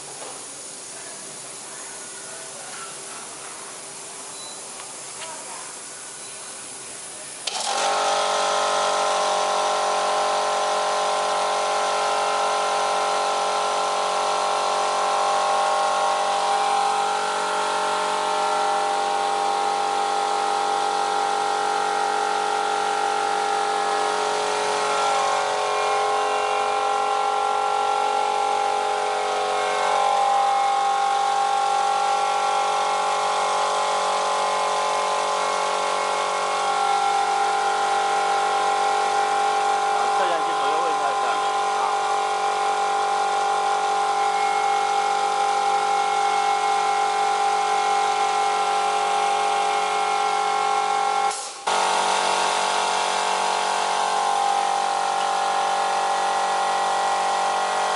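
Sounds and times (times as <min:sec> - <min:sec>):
machinery motor humming: 0:07.4 - 0:57.9.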